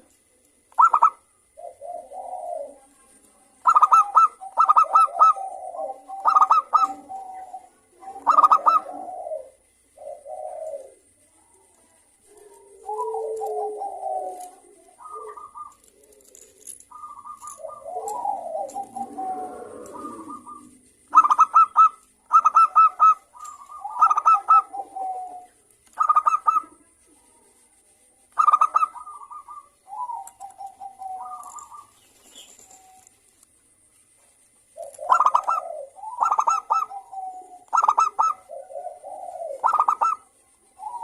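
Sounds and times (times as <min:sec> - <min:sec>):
doves cooing: 0:00.0 - 0:33.8, 0:34.6 - 0:41.0.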